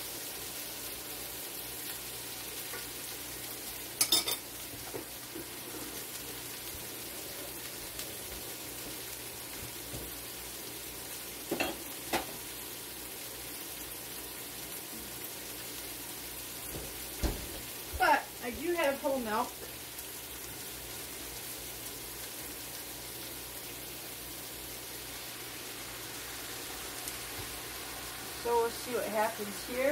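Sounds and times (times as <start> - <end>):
food sizzling in a skillet: 0.0 - 29.9.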